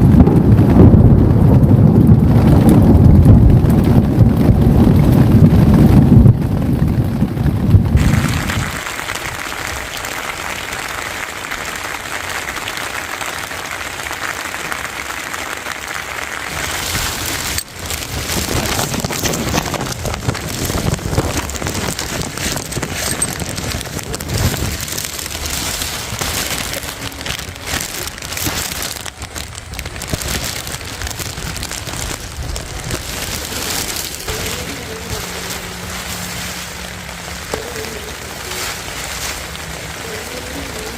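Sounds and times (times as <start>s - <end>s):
raindrops pattering on surface: 0.0s - 40.9s
steady rain falling: 0.0s - 40.9s.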